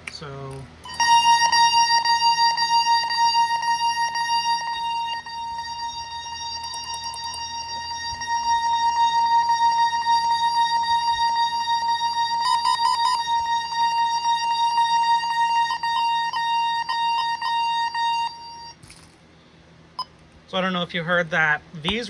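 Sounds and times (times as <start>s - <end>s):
high-pitched alarm tone: 0.9s - 18.8s
short pulsed beeps: 0.9s - 18.8s.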